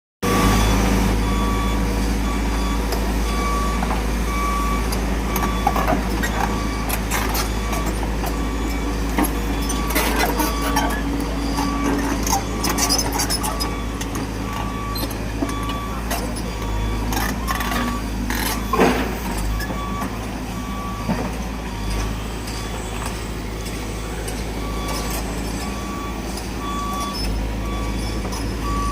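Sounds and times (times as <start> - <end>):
excavator diesel engine running: 0.2 - 28.9
warning alarm beeping: 0.3 - 28.9.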